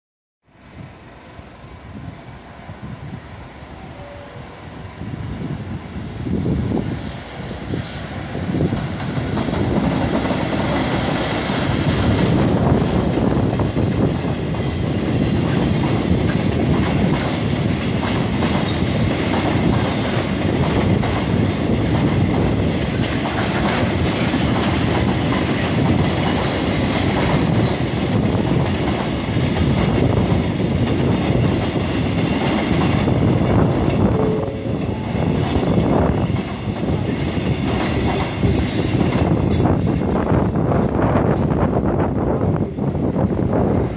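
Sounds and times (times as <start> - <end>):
train rumbling on rails: 0.4 - 43.9.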